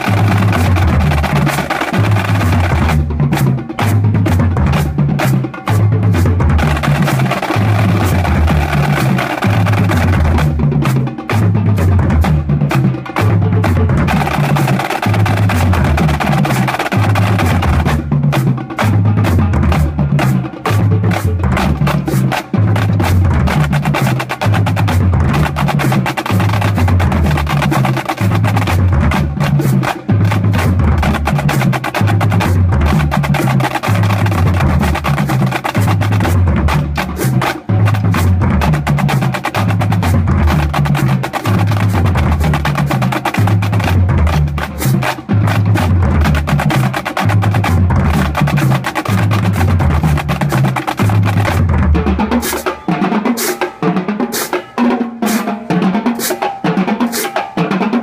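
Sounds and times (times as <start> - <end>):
low bass drum notes: 0.0 - 52.4
higher-pitched drum strokes: 0.0 - 58.0
snare drums: 0.0 - 58.0.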